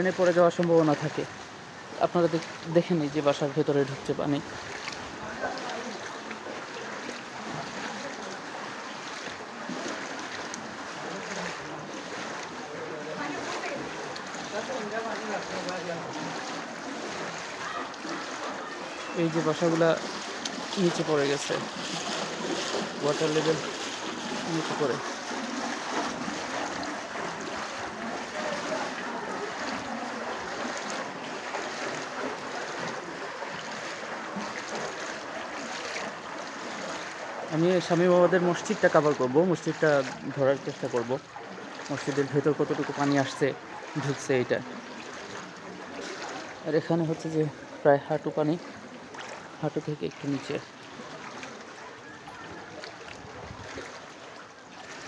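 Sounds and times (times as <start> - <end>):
legs wading through water: 0.0 - 55.0.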